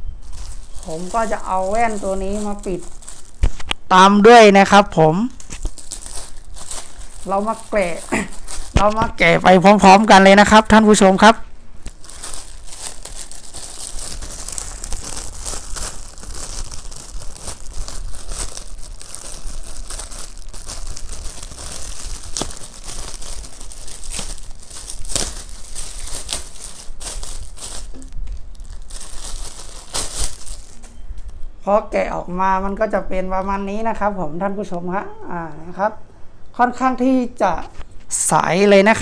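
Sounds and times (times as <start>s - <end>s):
plastic bag crinkling and tearing: 0.1s - 31.4s.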